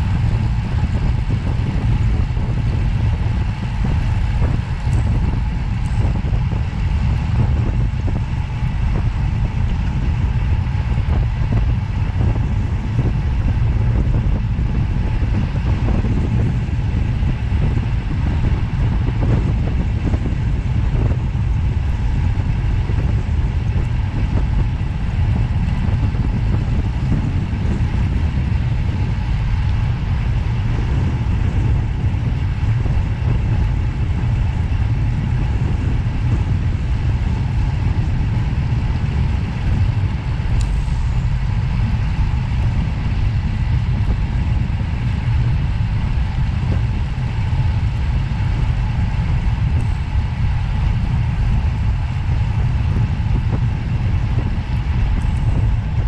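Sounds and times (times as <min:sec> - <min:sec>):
road noise: 0:00.0 - 0:56.0
vehicle engine rumble: 0:00.0 - 0:56.0.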